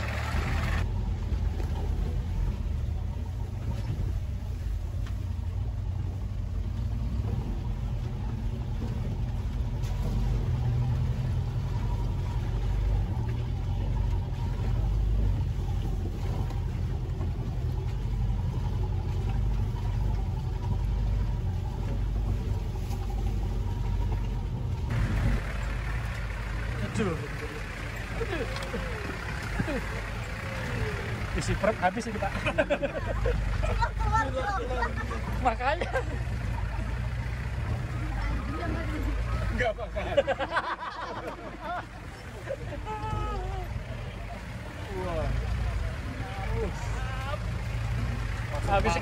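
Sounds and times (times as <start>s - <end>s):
off-road vehicle engine rumbling: 0.0s - 49.0s.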